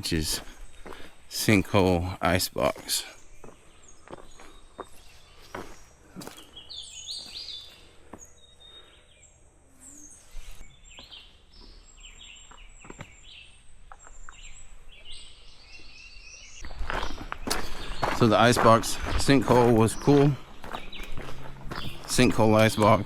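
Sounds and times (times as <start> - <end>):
wild birds chirping: 0.0 - 23.0.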